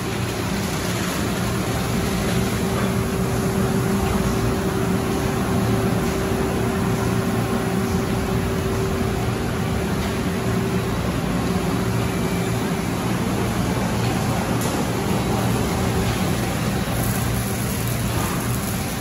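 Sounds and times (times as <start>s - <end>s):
car wash machinery rushing: 0.0s - 19.0s
machinery whine: 0.0s - 19.0s.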